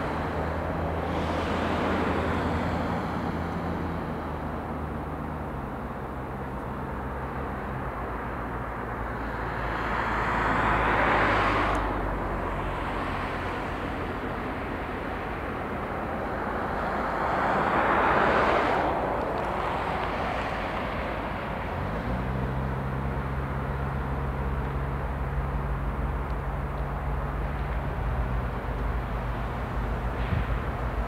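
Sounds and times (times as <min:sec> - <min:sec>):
diesel locomotive engine hum: 0:00.0 - 0:31.0.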